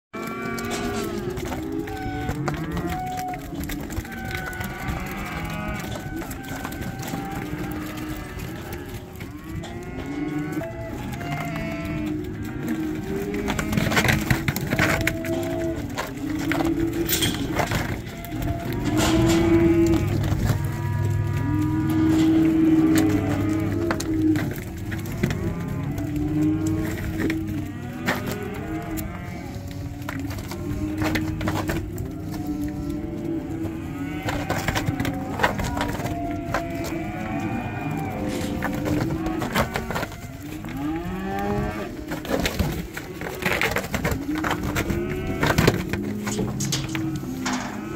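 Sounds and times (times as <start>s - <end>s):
cattle bawling: 0.2s - 47.9s.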